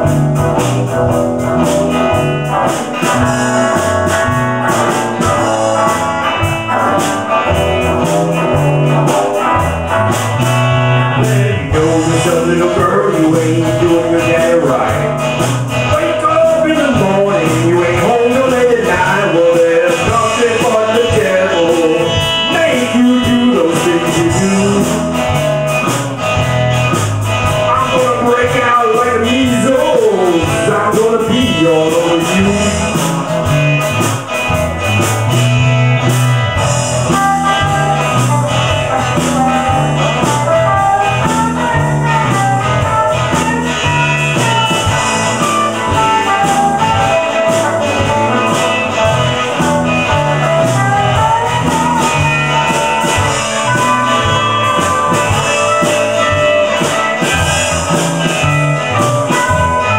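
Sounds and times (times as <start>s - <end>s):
band playing blues rock: 0.0s - 59.9s
guitar: 0.0s - 59.9s.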